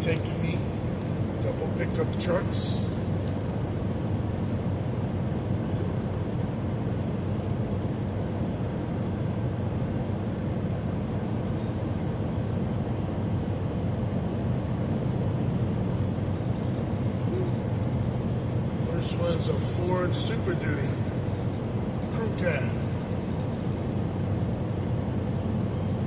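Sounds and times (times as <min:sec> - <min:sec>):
truck engine and road drone: 0:00.0 - 0:26.0.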